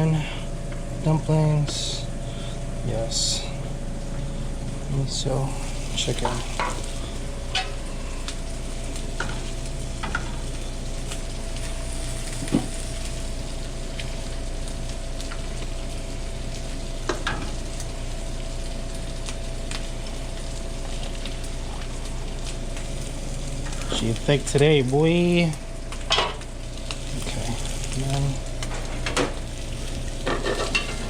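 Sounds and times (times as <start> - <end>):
constant hum: 0.0 - 31.0
food sizzling in hot oil: 3.8 - 31.0.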